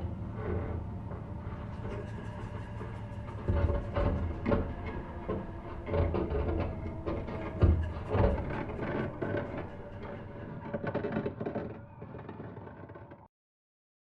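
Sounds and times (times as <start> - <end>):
low drone: 0.0 - 13.1.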